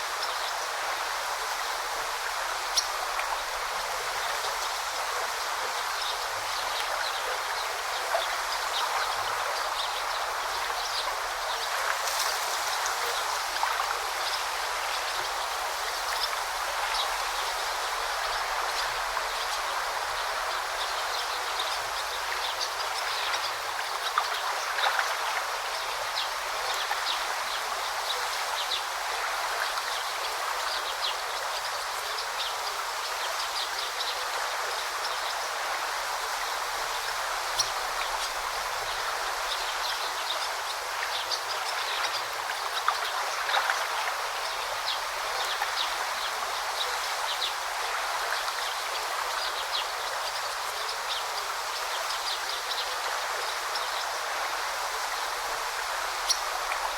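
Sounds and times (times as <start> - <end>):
brook babbling: 0.0 - 56.9
water splashes and trickles: 0.0 - 56.9.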